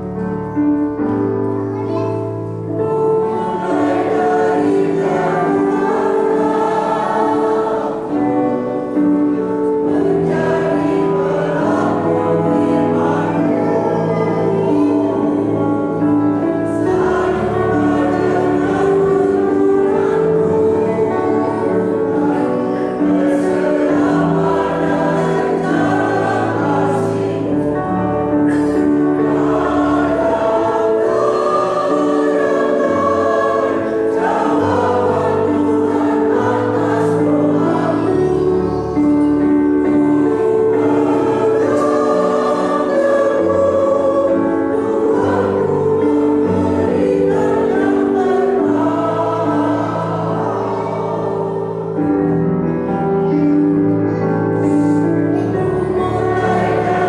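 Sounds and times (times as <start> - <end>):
mixed choir singing a hymn: 0.0 - 57.0.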